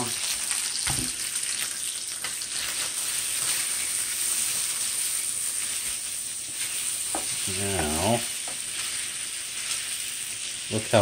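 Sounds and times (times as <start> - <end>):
fish frying in oil: 0.0 - 11.0.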